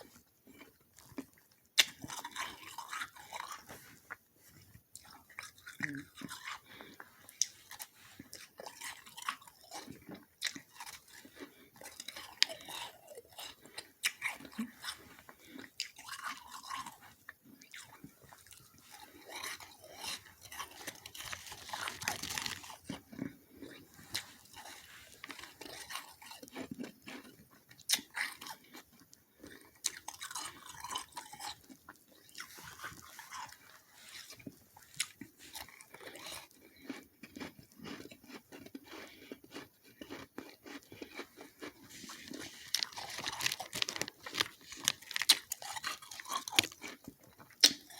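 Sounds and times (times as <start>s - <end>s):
chewing crunchy frost: 0.0s - 47.9s.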